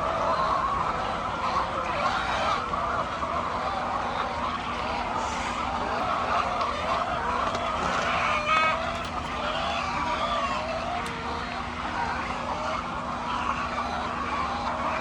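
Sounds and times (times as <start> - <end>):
flock of hens calling: 0.0 - 15.0
hen cackling: 0.0 - 15.0.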